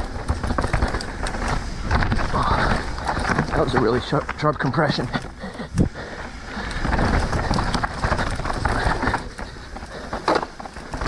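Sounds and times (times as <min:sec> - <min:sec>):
bike rattling over bumps: 0:00.0 - 0:11.0
bike tyres crunching over dirt: 0:00.0 - 0:11.0.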